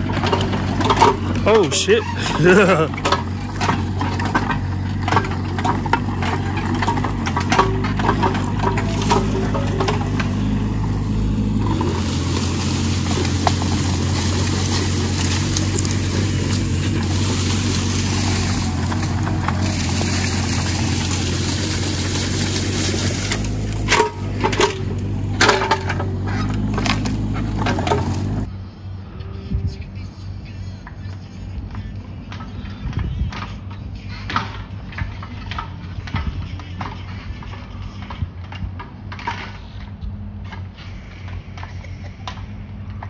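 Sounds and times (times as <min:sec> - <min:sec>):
excavator engine running: 0:00.0 - 0:43.0.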